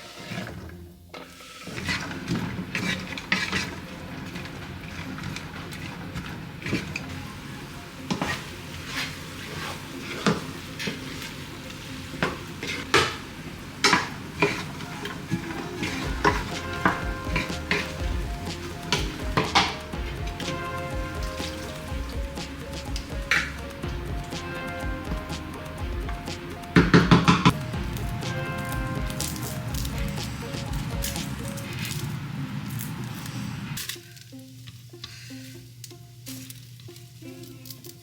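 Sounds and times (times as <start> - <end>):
spoon scraping and knocking pan: 0.0 - 32.0
food sizzling in a frying pan: 0.0 - 38.0.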